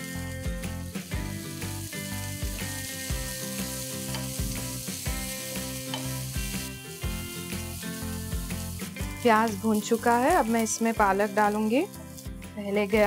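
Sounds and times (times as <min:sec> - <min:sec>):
background music with beat: 0:00.0 - 0:13.0
onion sizzling in hot oil: 0:00.0 - 0:13.0.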